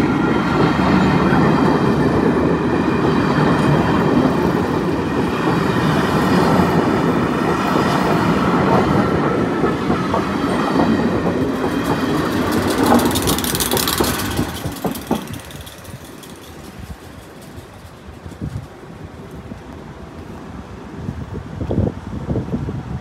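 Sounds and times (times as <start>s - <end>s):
wheels clicking over rail joints: 0.0s - 19.8s
train rumbling past: 0.0s - 23.0s.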